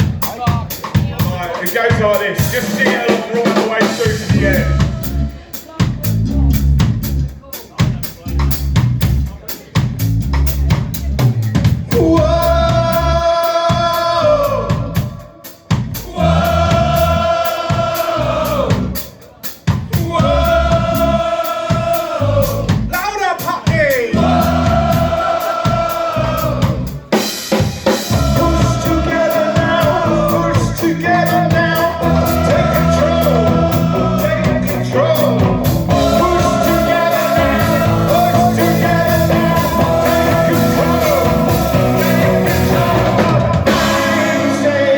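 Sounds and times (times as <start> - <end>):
drum kit: 0.0 - 44.9
live rock band playing: 0.0 - 44.9.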